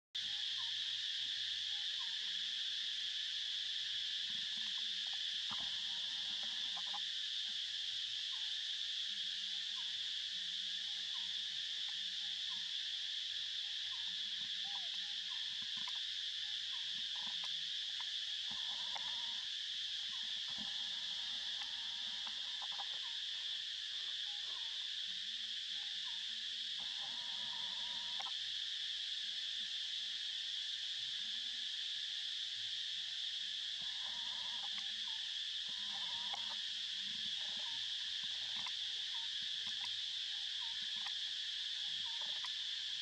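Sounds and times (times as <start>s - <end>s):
insects droning: 0.2s - 43.0s.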